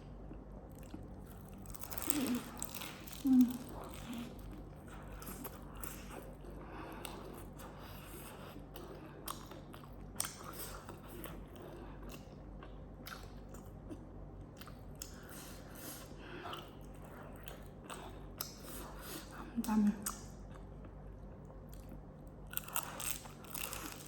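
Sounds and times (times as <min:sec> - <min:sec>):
person chewing and biting food: 0:00.1 - 0:19.3, 0:20.1 - 0:24.0.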